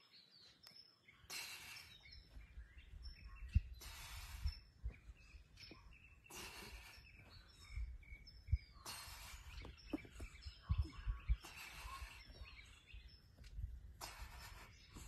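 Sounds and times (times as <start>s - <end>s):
small birds chirping: 0.0s - 15.0s
dull low thumps: 2.4s - 15.0s.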